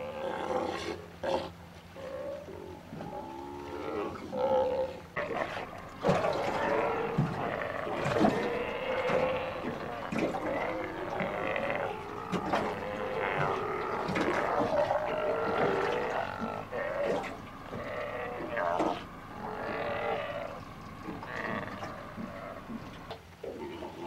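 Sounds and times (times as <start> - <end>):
sea lions calling: 0.0 - 24.0.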